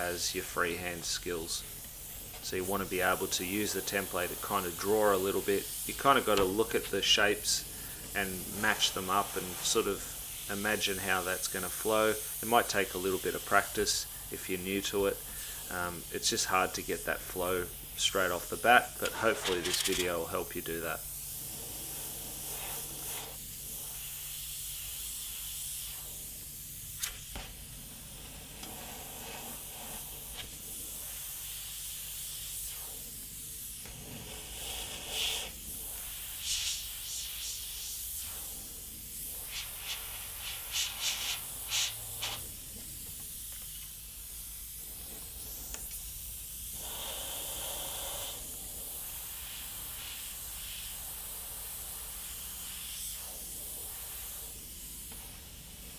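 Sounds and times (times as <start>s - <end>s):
airbrush spraying hiss: 0.0s - 55.9s.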